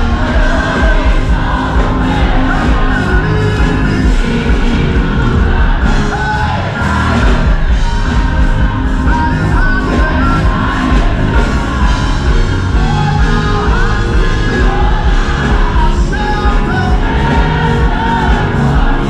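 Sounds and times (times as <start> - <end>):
children's choir singing: 0.0 - 19.0
live band playing: 0.0 - 19.0.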